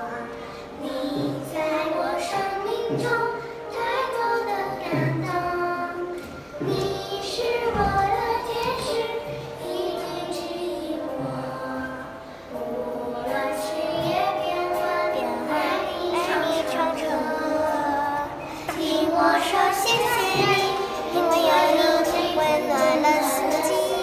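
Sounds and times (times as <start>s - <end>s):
children singing: 0.0s - 24.0s
music backing: 0.0s - 24.0s.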